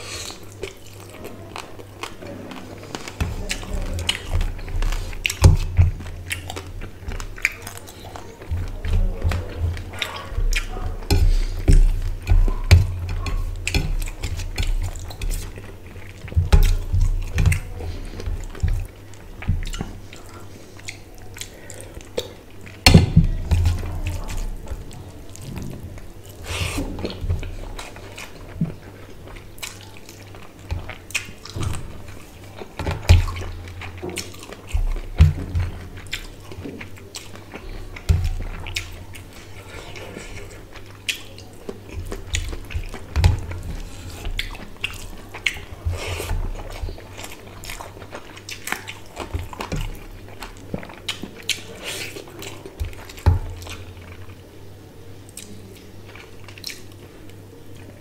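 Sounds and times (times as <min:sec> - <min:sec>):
fingers squishing rice and curry: 0:00.0 - 0:54.4
chewing: 0:00.0 - 0:58.0.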